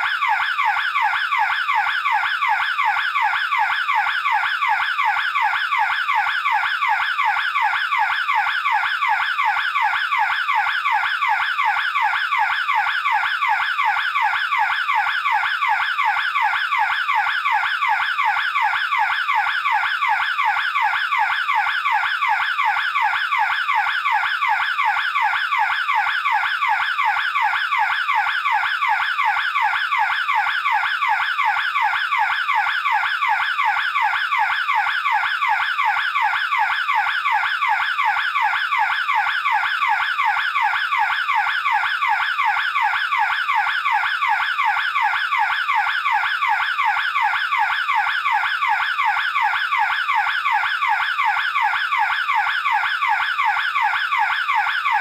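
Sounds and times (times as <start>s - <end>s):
burglar alarm siren warbling: 0.0s - 55.0s.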